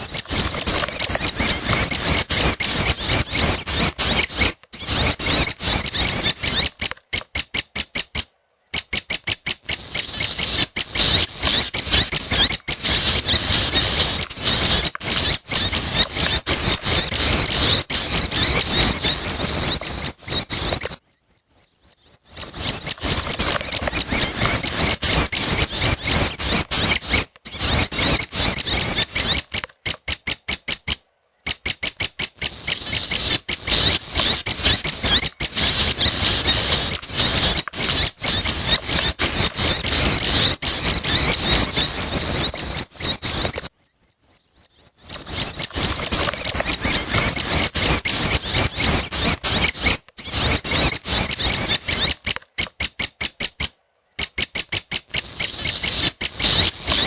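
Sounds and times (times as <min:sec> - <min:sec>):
chicks begging with squeaky calls: 0:00.0 - 0:57.0.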